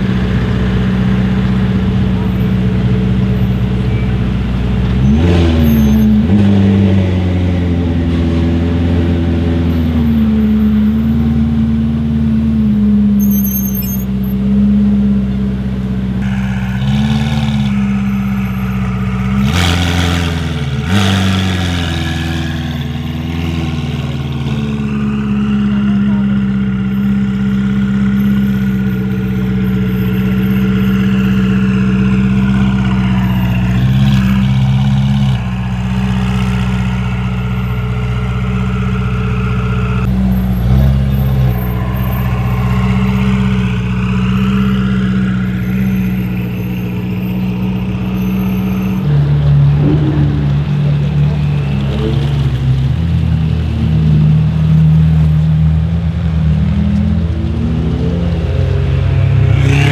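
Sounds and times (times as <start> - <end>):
car engine at low revs: 0.0 - 59.9.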